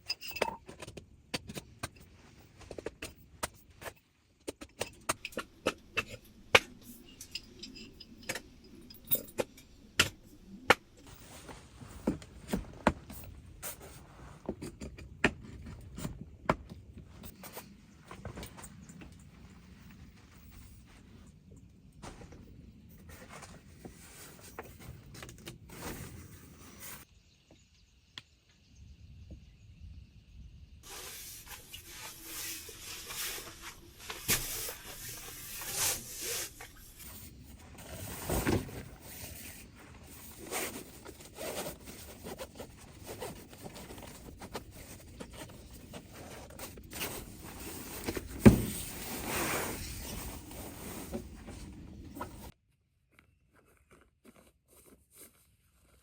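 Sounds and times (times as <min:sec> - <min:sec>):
rustling and handling noises: 0:00.1 - 0:27.1, 0:30.8 - 0:56.0.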